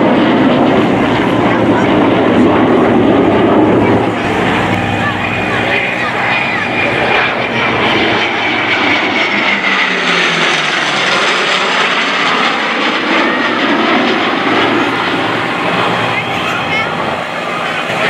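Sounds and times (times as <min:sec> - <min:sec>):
high jet whine: 0:00.0 - 0:18.0
jet and propeller planes passing: 0:00.0 - 0:18.0
low engine note: 0:00.0 - 0:18.0.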